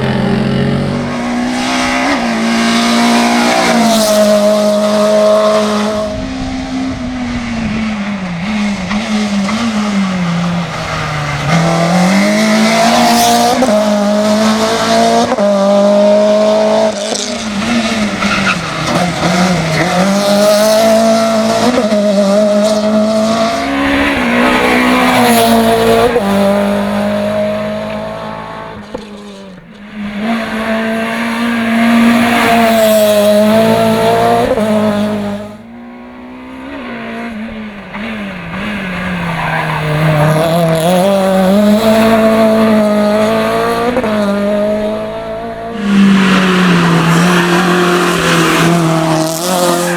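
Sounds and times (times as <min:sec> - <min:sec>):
car engine at full throttle: 0:00.0 - 0:49.9.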